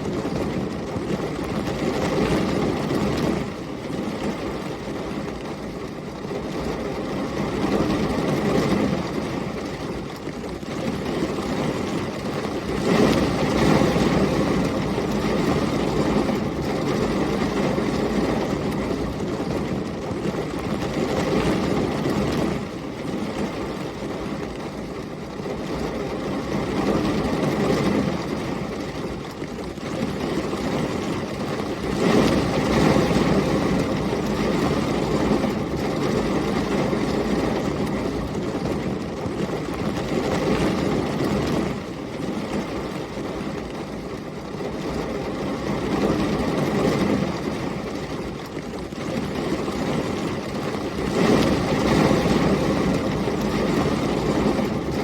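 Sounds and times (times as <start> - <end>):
heavy rain: 0.0 - 55.0
storm wind gusts: 0.0 - 55.0.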